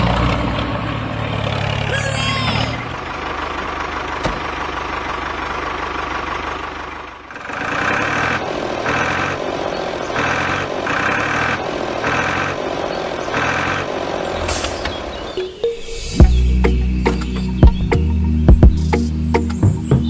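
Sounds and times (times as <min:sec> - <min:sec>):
pulsing engine: 0:00.0 - 0:20.0
tractor engine running: 0:00.0 - 0:20.0.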